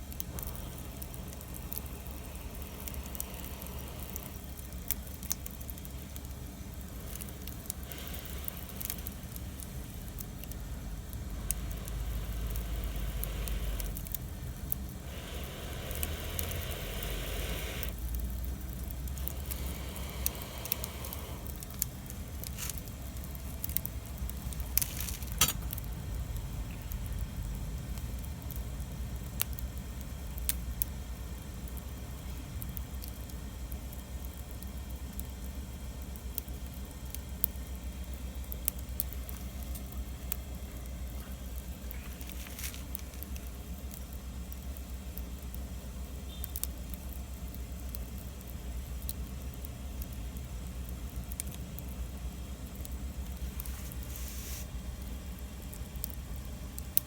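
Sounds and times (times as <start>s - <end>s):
fire hissing: 0.0s - 57.0s
wood fire crackling: 0.0s - 57.0s.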